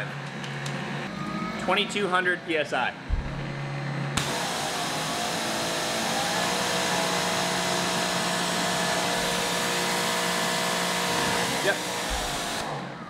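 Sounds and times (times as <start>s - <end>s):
pressure washer motor whine: 1.1s - 13.0s.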